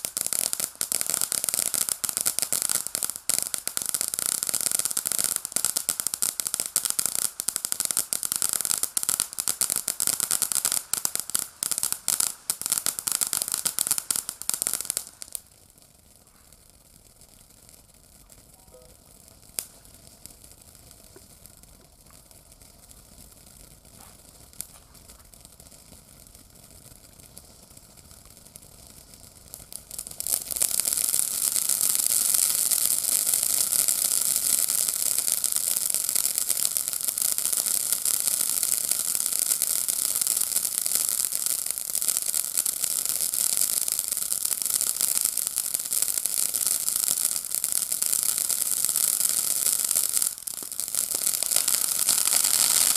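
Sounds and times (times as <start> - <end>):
firework pops: 0.0 - 15.5, 17.2 - 52.9
firework fountain crackling hiss: 0.0 - 52.9.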